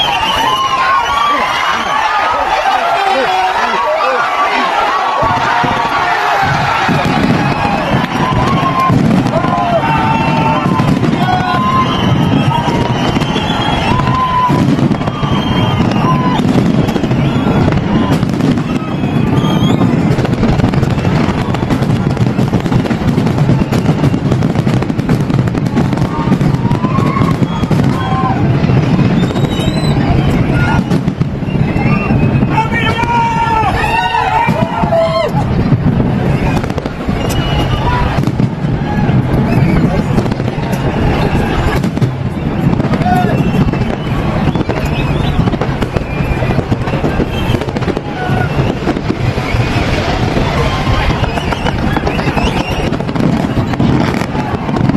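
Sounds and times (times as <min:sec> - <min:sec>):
fireworks bangs and crackling: 0:00.0 - 0:54.9.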